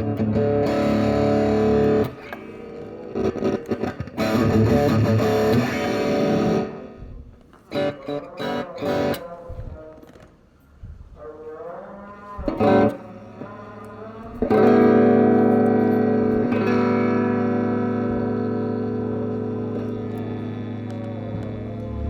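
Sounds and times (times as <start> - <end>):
electric guitar chords: 0.0 - 10.3, 12.2 - 22.0.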